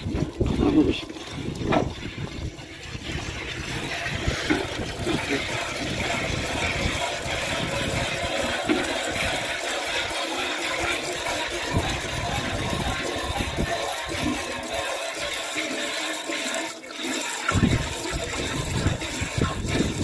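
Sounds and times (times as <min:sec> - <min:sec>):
milk squirting into pot: 0:00.0 - 0:20.0.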